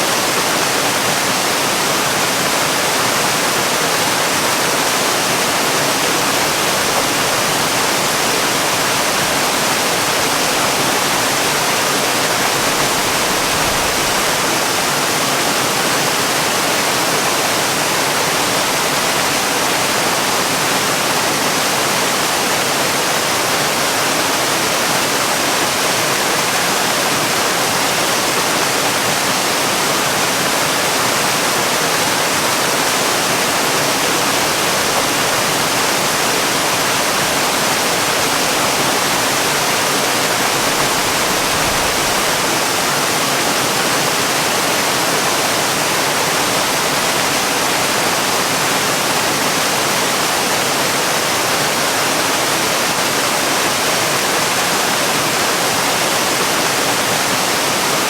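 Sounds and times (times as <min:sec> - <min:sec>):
waterfall: 0:00.0 - 0:58.0.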